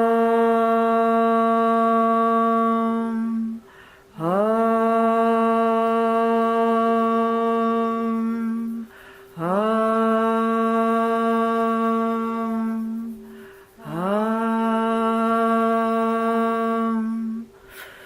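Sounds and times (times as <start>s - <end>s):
person humming a steady note: 0.0s - 18.0s.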